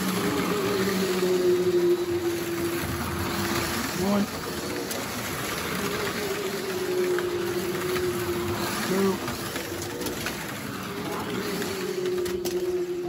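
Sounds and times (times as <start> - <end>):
slot car motors whining: 0.0 - 13.0.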